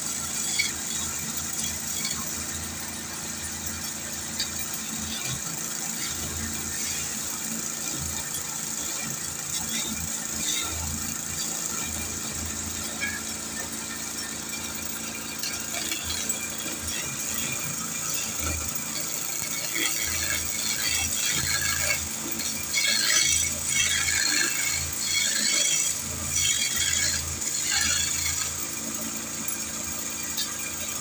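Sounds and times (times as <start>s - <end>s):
lathe humming: 0.0s - 31.0s
tool scraping spinning wood: 0.0s - 31.0s.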